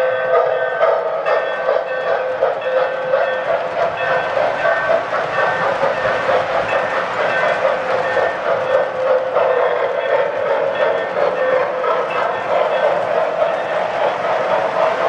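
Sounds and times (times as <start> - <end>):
toy train wheels clattering on track: 0.0 - 15.0.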